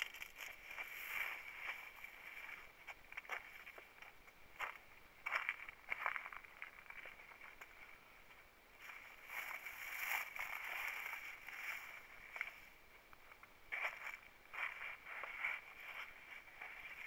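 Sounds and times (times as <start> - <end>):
footsteps on gravelly ground: 0.0 - 17.0.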